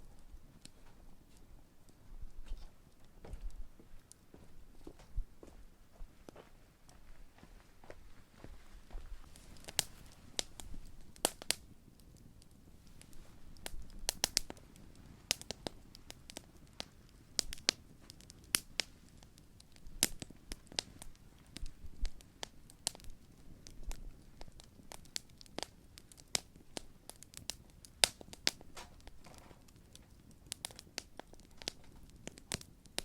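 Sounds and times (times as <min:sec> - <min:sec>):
wood crackling and popping: 0:00.0 - 0:33.0
flames burning: 0:00.2 - 0:33.0.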